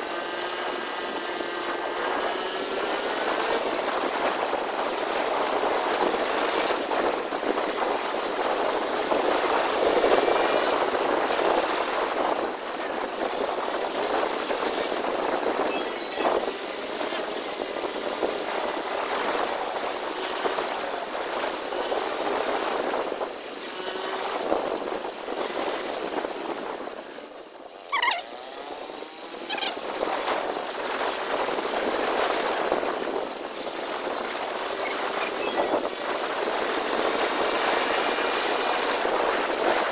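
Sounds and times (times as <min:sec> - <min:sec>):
wind and road noise on microphone: 0:00.0 - 0:39.9.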